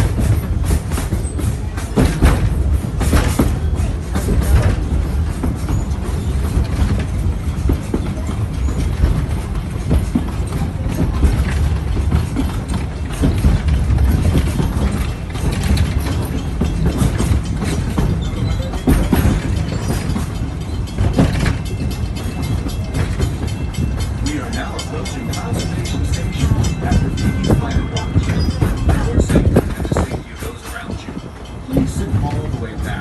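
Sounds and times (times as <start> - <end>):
train rumble: 0.0 - 33.0
wheels clacking over rails: 0.0 - 33.0.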